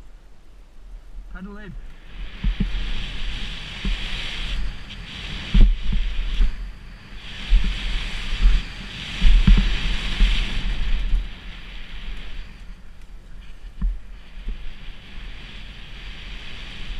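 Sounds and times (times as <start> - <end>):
wind buffeting microphone: 0.0 - 16.9
bike tyre noise: 1.8 - 16.9.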